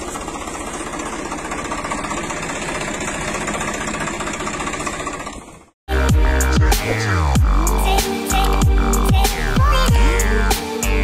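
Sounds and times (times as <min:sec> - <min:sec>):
tractor engine chugging: 0:00.0 - 0:10.5.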